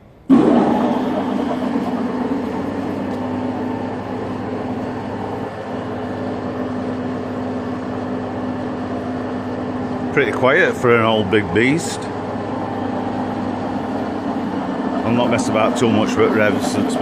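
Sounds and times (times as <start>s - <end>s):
machine tool humming: 0.0s - 17.0s.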